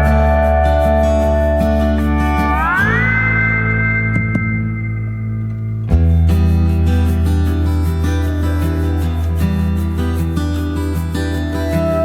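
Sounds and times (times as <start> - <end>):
acoustic guitar music with bass: 0.0 - 12.0.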